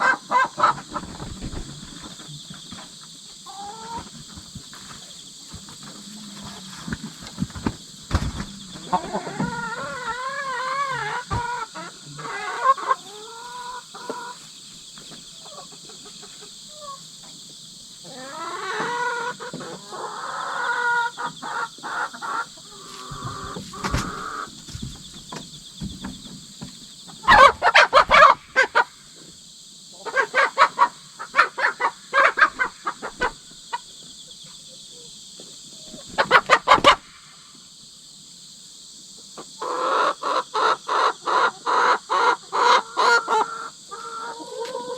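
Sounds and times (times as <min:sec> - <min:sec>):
hens clucking: 0:00.0 - 0:29.3, 0:29.9 - 0:37.2, 0:39.4 - 0:44.9
insect chorus: 0:00.0 - 0:44.9.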